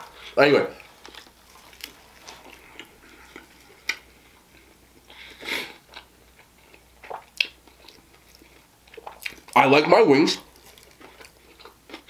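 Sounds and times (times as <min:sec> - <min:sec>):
person chewing food: 0:00.1 - 0:09.6, 0:10.4 - 0:12.0.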